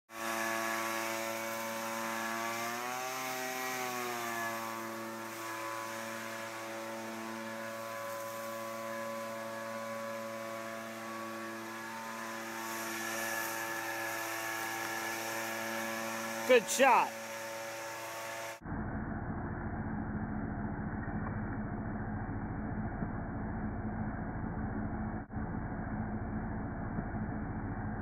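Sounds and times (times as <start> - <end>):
motor drone: 0.1 - 28.0.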